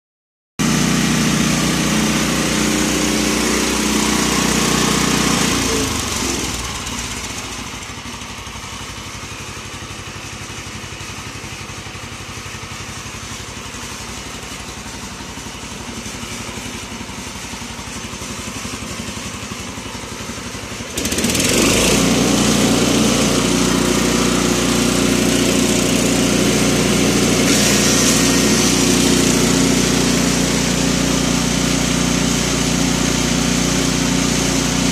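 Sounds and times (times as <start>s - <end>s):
small petrol engine running: 0.6s - 34.9s.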